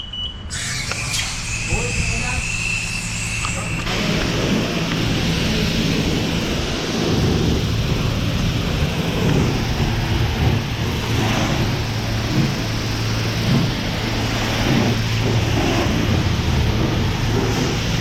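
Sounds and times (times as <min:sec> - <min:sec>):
high-pressure water spray hissing: 0:00.5 - 0:18.0.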